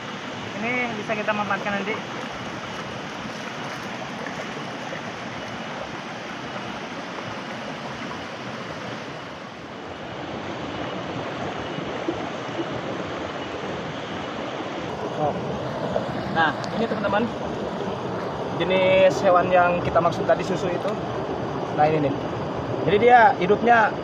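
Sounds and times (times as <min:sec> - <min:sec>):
stream flowing over stones: 0:00.0 - 0:21.3.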